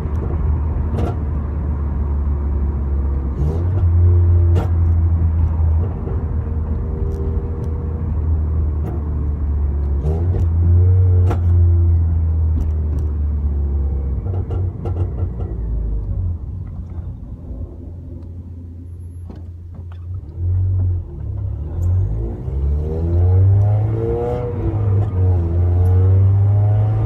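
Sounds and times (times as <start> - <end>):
car exhaust deep rumble: 0.0 - 27.0.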